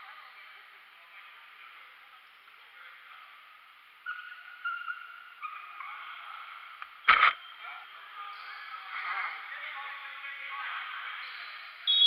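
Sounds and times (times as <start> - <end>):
sports hall ambience: 0.0 - 12.0.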